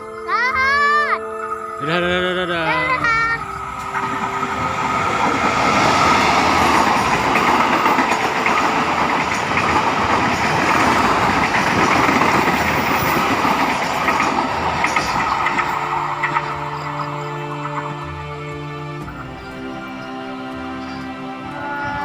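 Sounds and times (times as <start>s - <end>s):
rail clicks: 1.3s - 22.0s
train wheels on rails: 2.7s - 22.0s.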